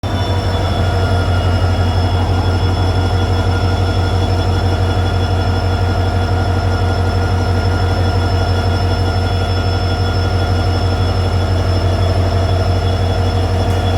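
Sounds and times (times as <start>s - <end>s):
diesel locomotive drone: 0.0s - 13.9s
high whines: 0.0s - 13.9s.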